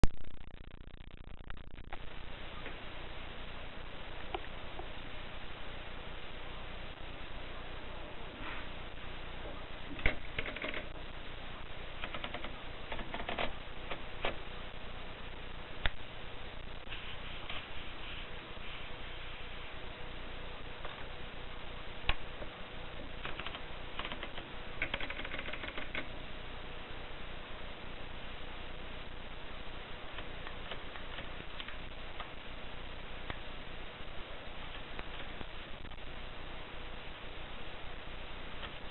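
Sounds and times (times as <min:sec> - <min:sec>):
steady hiss and low hum: 0:00.0 - 0:38.9.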